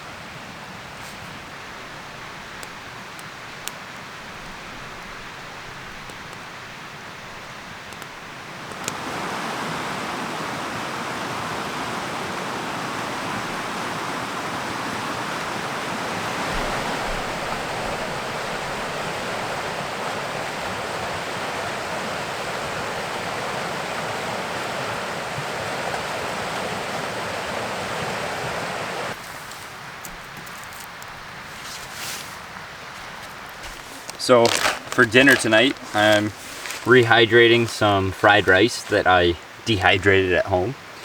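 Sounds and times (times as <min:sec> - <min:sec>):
flowing river water: 0:00.0 - 0:41.0.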